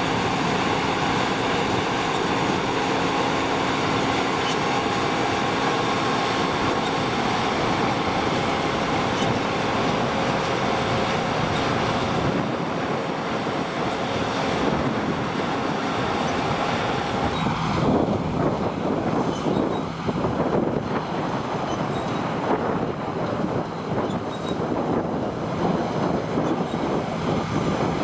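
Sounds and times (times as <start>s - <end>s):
harvesting machinery running: 0.0s - 28.0s
high mechanical whine: 0.0s - 28.0s.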